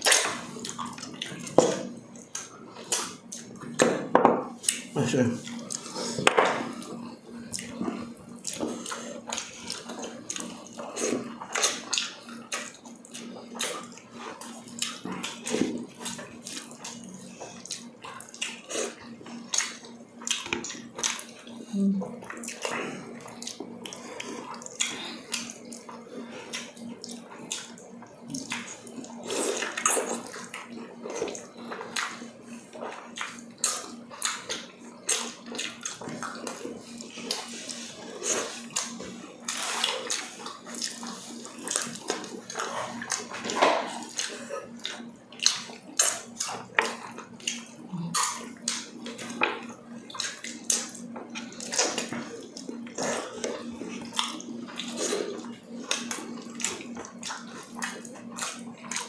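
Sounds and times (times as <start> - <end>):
wet smacking and chewing: 0.0 - 3.8, 6.8 - 21.6, 22.2 - 59.0.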